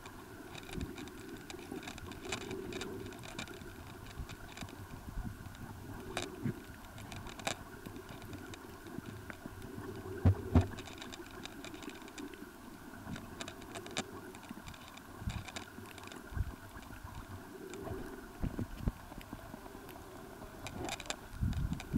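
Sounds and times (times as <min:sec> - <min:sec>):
faint underwater hum: 0:00.0 - 0:21.9
sharp underwater clicks: 0:00.0 - 0:21.9.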